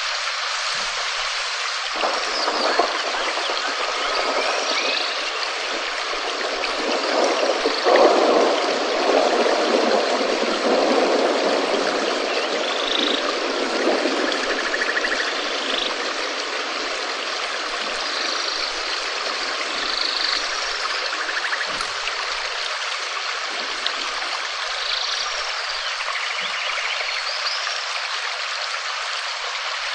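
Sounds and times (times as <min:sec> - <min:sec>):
steady rain: 0:00.0 - 0:29.9.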